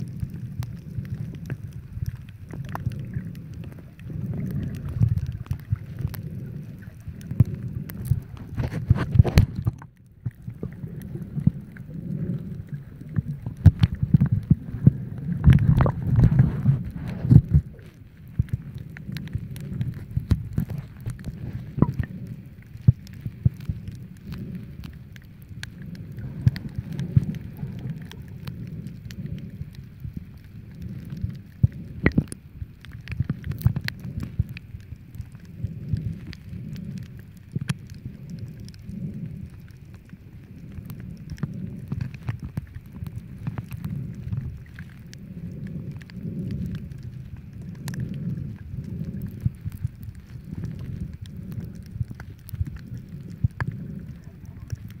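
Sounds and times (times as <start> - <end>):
sharp clicks and crackles: 0.0 - 55.0
underwater rumble of moving water: 0.0 - 55.0.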